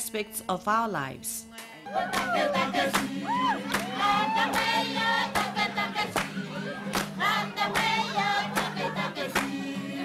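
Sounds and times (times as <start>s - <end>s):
women singing in chorus: 0.0s - 10.0s.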